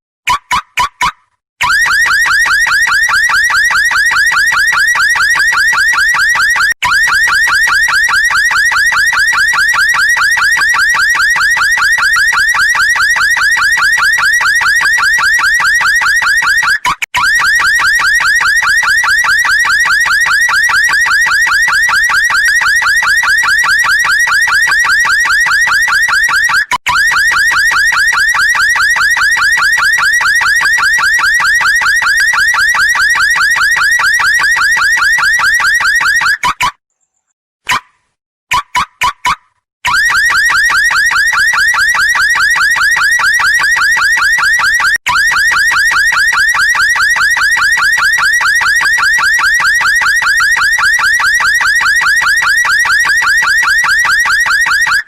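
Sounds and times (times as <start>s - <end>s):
car alarm siren warbling: 0.3s - 36.7s, 39.9s - 55.0s.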